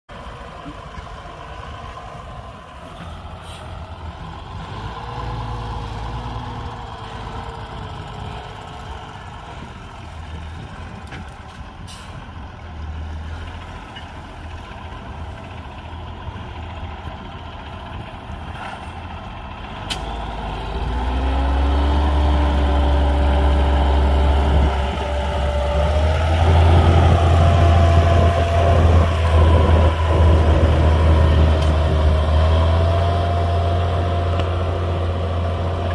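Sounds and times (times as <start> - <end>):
tractor diesel engine under load: 0.1 - 35.9.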